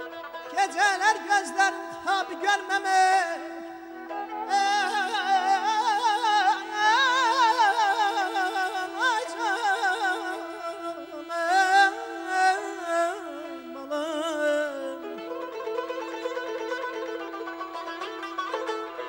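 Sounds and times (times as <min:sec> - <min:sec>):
ornamented string and wind melody: 0:00.0 - 0:19.0.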